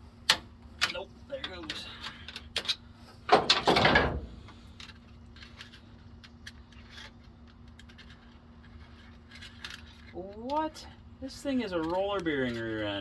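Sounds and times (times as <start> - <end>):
faint steady hum: 0.0 - 13.0
metal parts scraping and clattering: 1.4 - 13.0.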